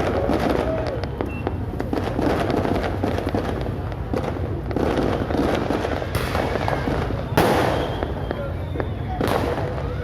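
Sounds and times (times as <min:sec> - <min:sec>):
fireworks crackling and banging: 0:00.0 - 0:10.0.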